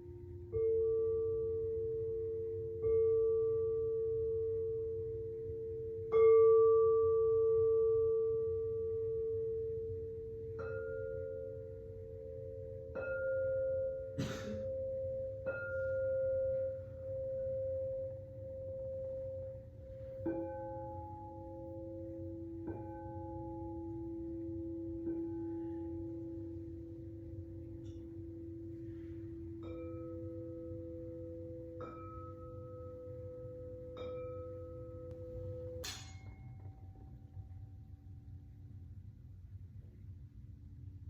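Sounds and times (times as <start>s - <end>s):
singing bowls ringing: 0.0s - 38.4s.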